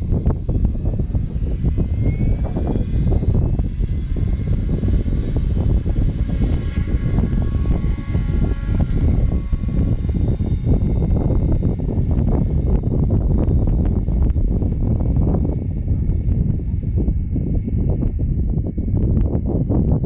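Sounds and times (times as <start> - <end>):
model helicopter rotor whine: 0.0 - 20.0
wind buffeting microphone: 0.0 - 20.0.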